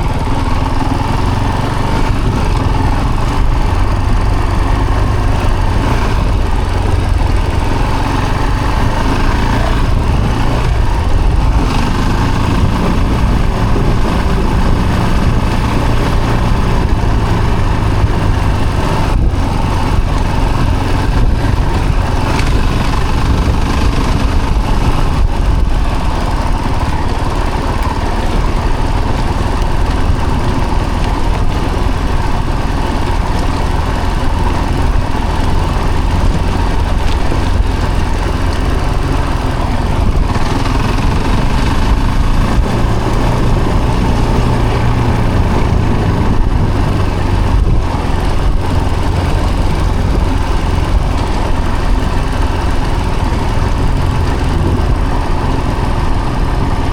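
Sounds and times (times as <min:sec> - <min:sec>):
vehicle engine running at low revs: 0:00.0 - 0:56.9.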